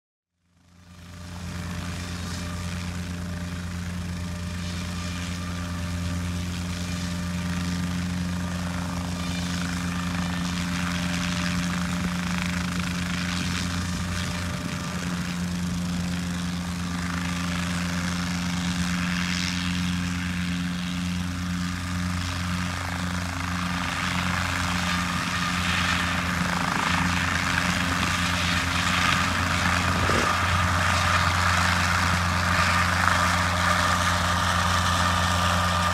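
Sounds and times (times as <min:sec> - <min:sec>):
helicopter rotor and engine drone: 0:00.3 - 0:35.9.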